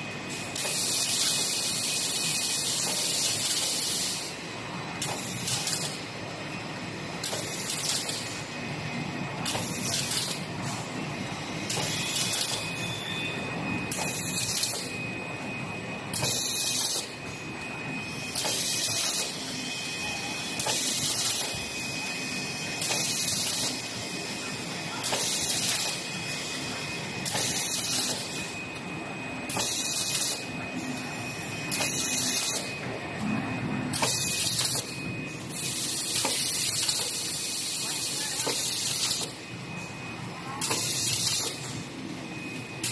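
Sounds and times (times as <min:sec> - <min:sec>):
mechanical hum: 0:00.0 - 0:42.9.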